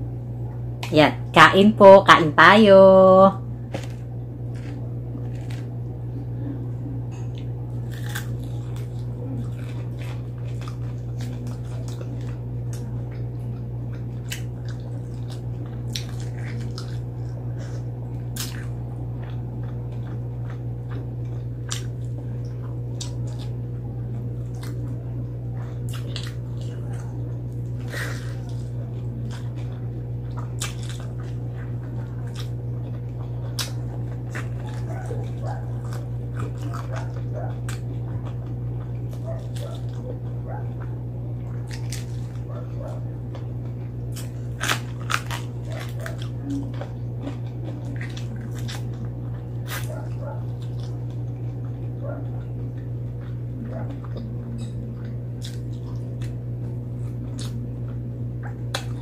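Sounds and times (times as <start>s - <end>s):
low hum: 0.0s - 59.0s
crunching fried chicken: 3.6s - 59.0s
chewing and wet mouth sounds: 3.7s - 59.0s.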